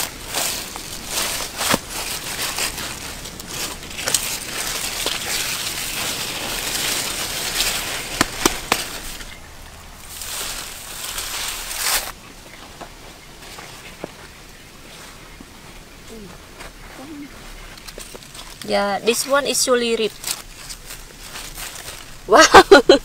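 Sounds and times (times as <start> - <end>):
vines and leaves rustling: 0.0 - 23.0.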